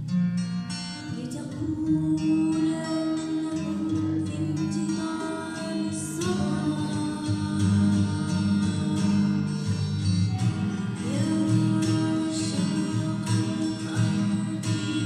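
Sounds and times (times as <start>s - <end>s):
acoustic guitar playing: 0.0s - 15.0s
girl singing: 1.0s - 15.0s.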